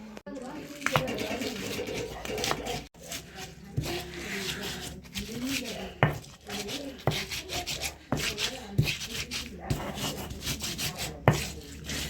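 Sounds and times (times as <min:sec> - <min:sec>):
scraping or rubbing: 0:00.4 - 0:12.0.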